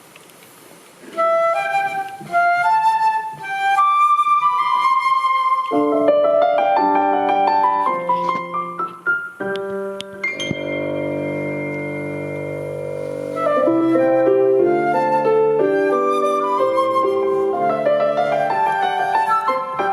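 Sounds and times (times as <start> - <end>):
flute-like melody: 1.0 - 19.9
piano chords: 1.2 - 19.9.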